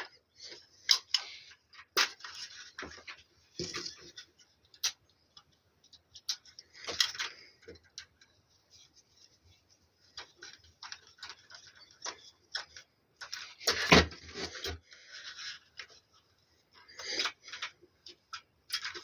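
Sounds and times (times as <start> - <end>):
objects being handled: 0.0 - 19.0.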